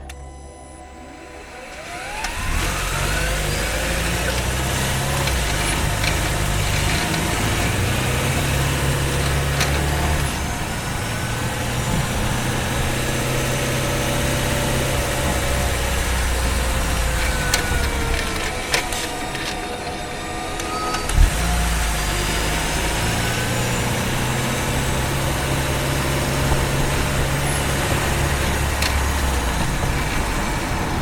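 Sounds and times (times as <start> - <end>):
car engine running: 0.0 - 31.0
electric drive whine: 0.0 - 31.0.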